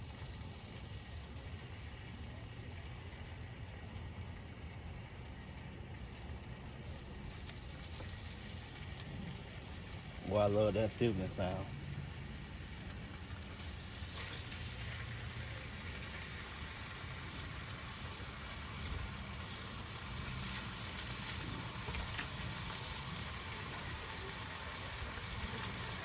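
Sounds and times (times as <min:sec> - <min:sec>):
bacon sizzling on a griddle: 0:00.0 - 0:26.0.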